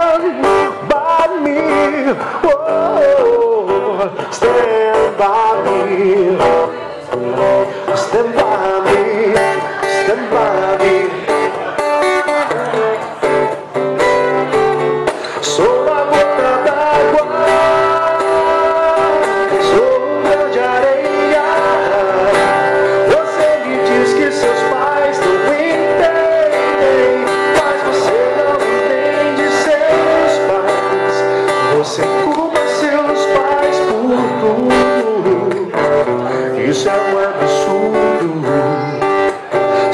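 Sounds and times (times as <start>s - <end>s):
acoustic guitar strumming: 0.0s - 39.9s
man singing into a microphone: 0.0s - 39.9s.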